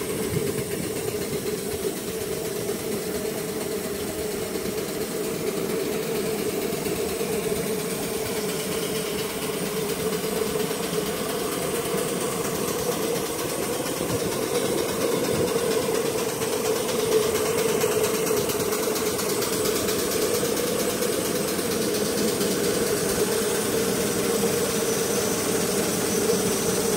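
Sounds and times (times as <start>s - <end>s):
steam engine running: 0.0s - 26.9s.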